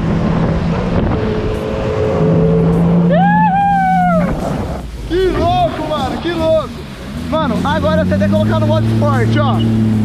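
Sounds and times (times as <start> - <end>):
wind and spray rushing: 0.0 - 3.1, 3.7 - 10.0
jet ski engine running: 0.0 - 10.0.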